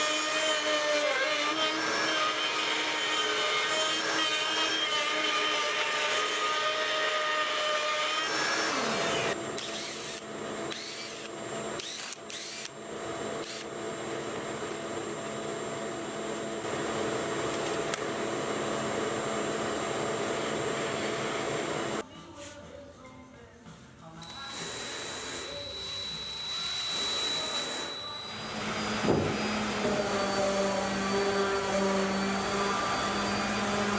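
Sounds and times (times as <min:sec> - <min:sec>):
woodworking power tools whirring: 0:00.0 - 0:22.0, 0:24.2 - 0:33.9.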